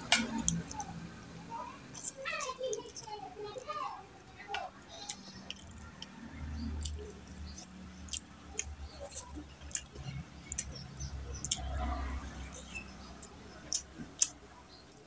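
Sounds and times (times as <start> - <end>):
close chewing with wet mouth clicks: 0.1 - 1.0, 1.9 - 3.7, 4.9 - 15.0.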